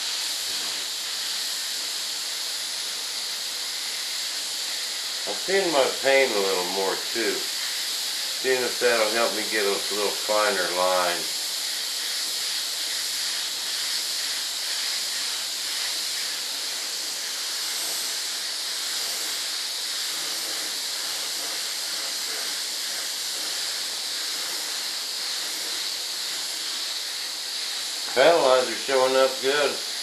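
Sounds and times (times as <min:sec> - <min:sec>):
paint spray gun hissing: 0:00.0 - 0:30.0.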